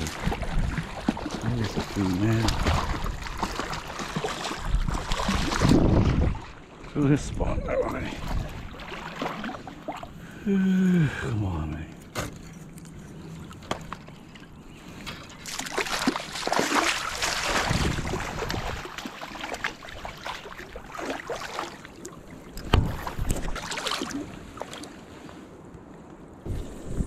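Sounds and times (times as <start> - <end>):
river water splashing: 0.0 - 27.0.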